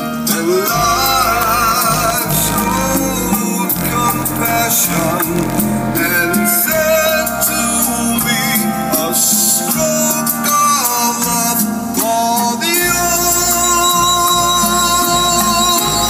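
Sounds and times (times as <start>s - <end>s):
guitar: 0.0s - 16.0s
person singing: 0.0s - 16.0s
song on car audio system: 0.0s - 16.0s.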